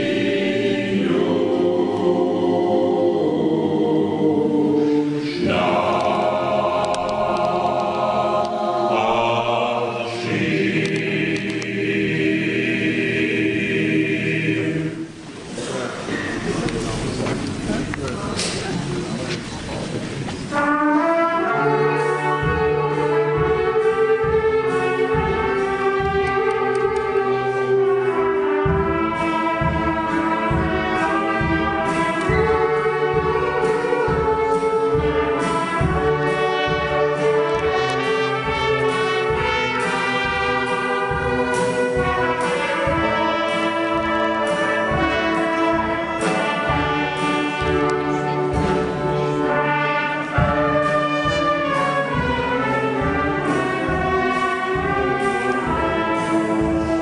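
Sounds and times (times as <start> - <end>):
brass band slow chords: 0.0 - 19.2, 20.2 - 57.0.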